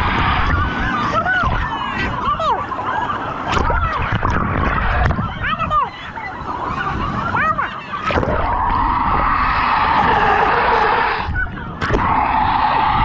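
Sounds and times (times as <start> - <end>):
underwater rushing water: 0.0 - 5.5, 6.4 - 13.0.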